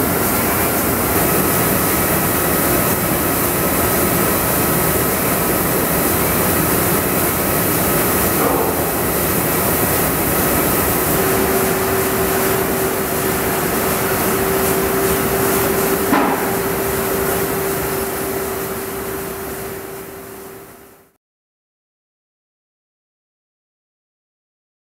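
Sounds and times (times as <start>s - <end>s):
printing press mechanical din: 0.0s - 20.3s.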